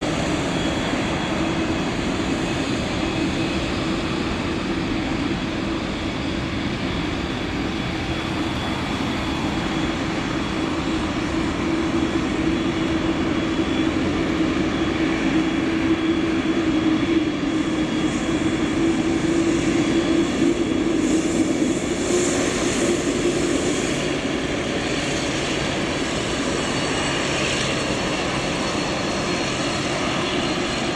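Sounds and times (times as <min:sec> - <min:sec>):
jet engines rumbling: 0:00.0 - 0:30.9.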